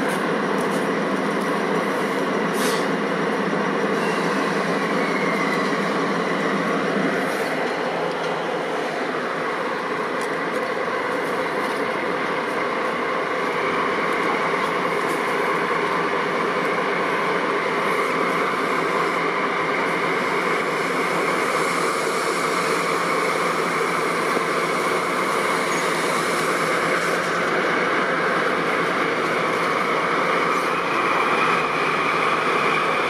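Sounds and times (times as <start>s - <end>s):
diesel locomotive engines droning: 0.0s - 33.0s.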